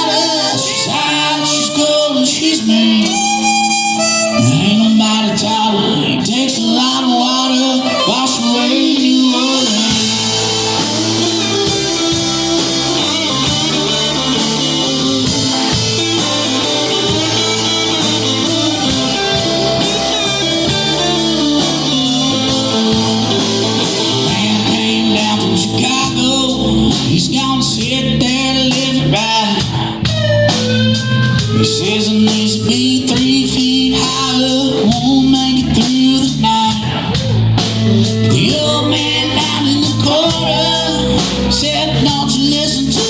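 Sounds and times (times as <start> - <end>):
guitar: 0.0 - 43.0
live band music: 0.0 - 43.0.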